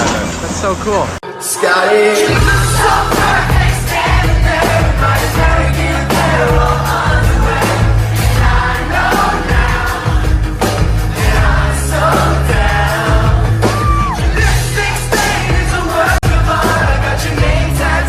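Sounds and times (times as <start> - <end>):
pop song with singing: 1.2 - 18.0.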